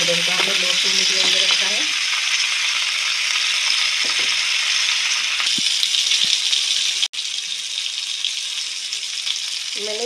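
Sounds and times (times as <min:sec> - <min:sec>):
oil sizzling in a pan: 0:00.0 - 0:10.0.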